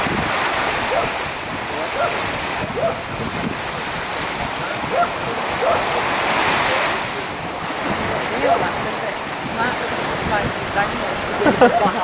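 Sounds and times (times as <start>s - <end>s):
gusty wind on microphone: 0.0s - 12.0s
surf washing on beach: 0.0s - 12.0s.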